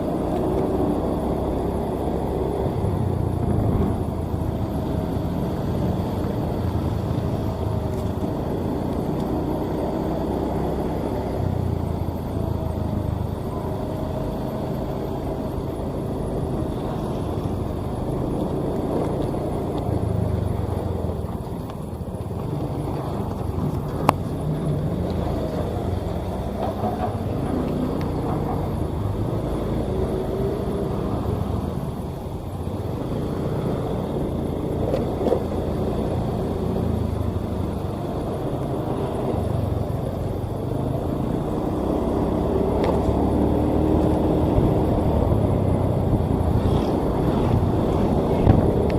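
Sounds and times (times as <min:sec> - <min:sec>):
paver diesel engine running: 0:00.0 - 0:48.9.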